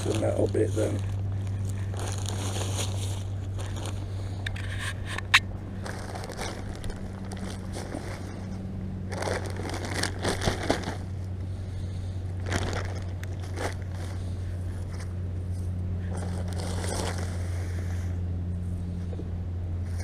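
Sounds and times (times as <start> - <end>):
bag crinkling and scraping: 0.0 - 11.2, 12.3 - 18.0.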